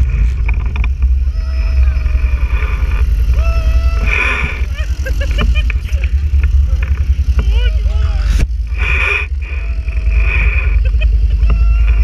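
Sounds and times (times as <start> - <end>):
atv engine low rumble: 0.0 - 12.0
quad engine droning: 0.0 - 12.0.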